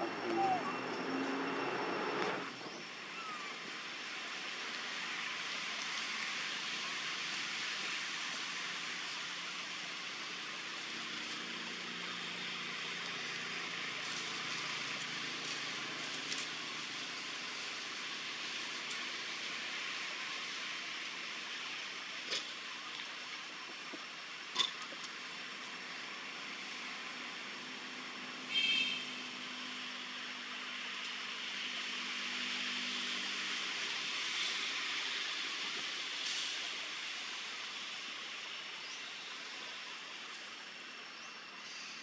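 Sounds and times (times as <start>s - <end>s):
high-pitched background hiss: 0.0s - 42.0s.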